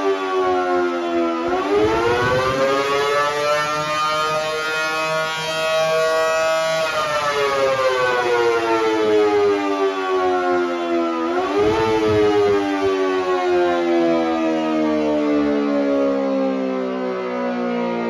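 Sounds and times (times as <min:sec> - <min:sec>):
siren wailing: 0:00.0 - 0:18.0.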